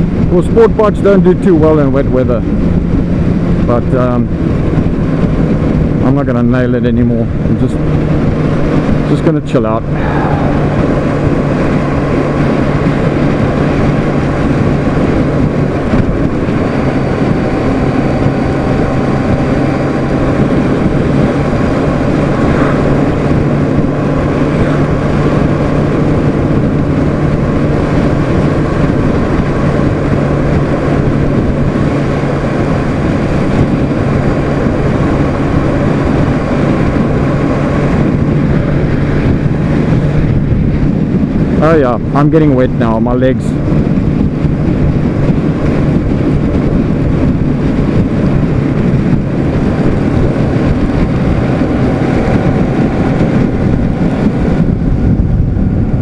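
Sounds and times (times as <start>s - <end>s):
motorcycle engine cruising: 0.0s - 56.0s
wind noise: 0.0s - 56.0s.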